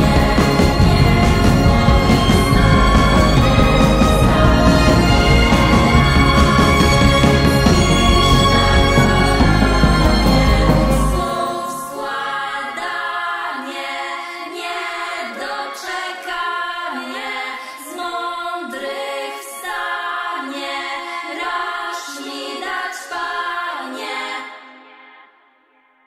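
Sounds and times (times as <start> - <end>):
layered voices singing: 0.0 - 25.4.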